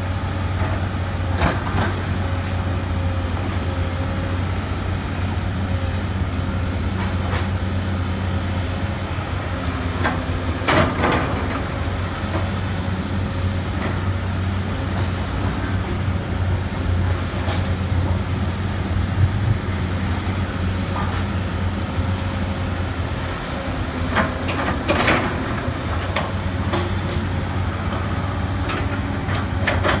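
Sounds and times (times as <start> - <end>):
excavator diesel engine drone: 0.0 - 30.0.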